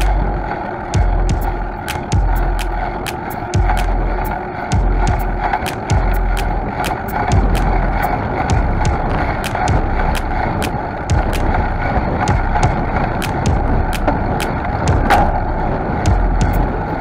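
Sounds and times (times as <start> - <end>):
bicycle tyres rolling on asphalt: 0.0 - 17.0
sharp ticks: 0.0 - 17.0
wind rumble on microphone: 0.0 - 17.0.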